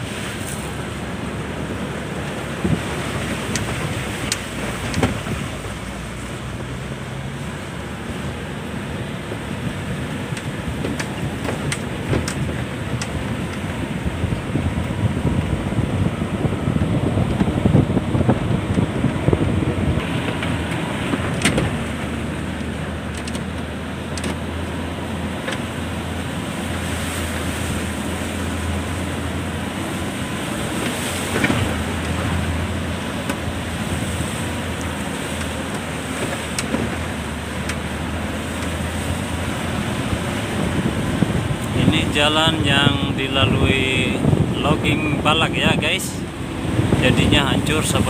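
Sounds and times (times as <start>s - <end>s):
vehicle engine running: 0.0s - 48.0s
wind on microphone: 1.4s - 7.3s, 8.0s - 23.6s, 25.2s - 48.0s.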